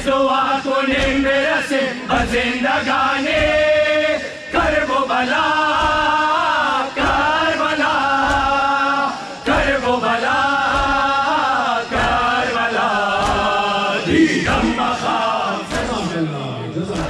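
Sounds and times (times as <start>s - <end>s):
men chanting through microphone: 0.0s - 17.0s
rhythmic chest-beating: 0.0s - 17.0s.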